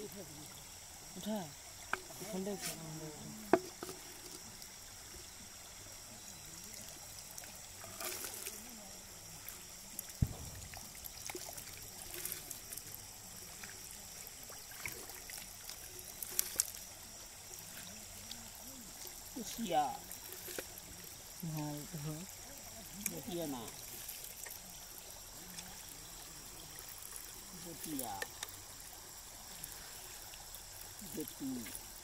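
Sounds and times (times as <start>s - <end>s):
water trickling into steel bucket: 0.0s - 32.0s.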